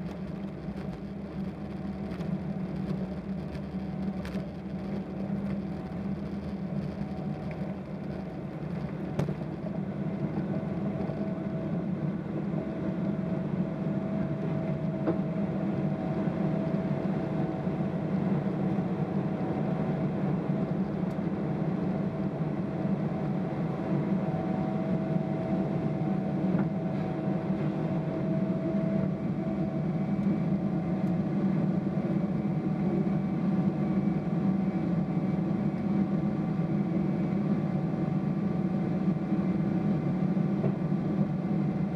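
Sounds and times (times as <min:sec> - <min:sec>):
faint engine whine: 0:00.0 - 0:41.9
jet engine cabin rumble: 0:00.0 - 0:41.9.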